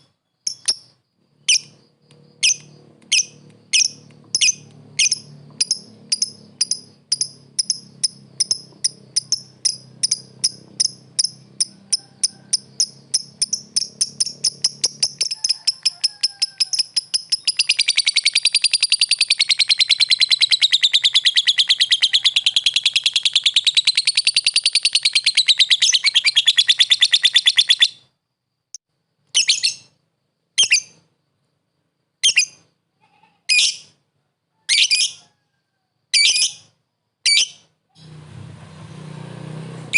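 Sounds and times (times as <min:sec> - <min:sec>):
lovebird chirping and trilling: 0:00.0 - 0:28.1, 0:29.3 - 0:30.0, 0:30.6 - 0:31.0, 0:32.2 - 0:32.7, 0:33.5 - 0:34.0, 0:34.7 - 0:35.2, 0:36.1 - 0:38.1.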